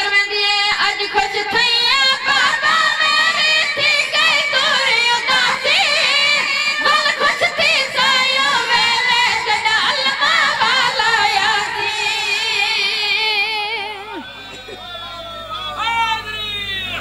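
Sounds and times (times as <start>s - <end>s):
boys singing a lament: 0.0s - 15.4s.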